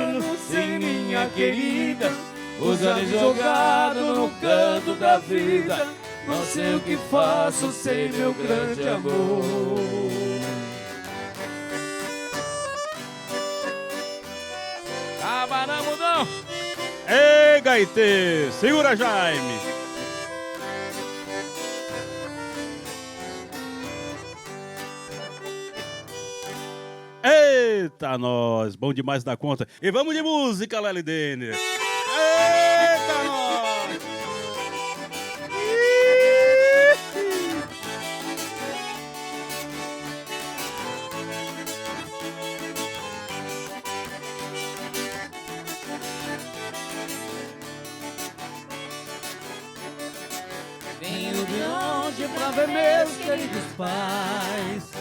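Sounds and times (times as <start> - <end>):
plucked strings: 0.0 - 27.2, 31.6 - 55.0
accordion melody: 0.0 - 28.0, 31.5 - 55.0
guitar picking bright notes: 0.0 - 28.0, 31.5 - 55.0.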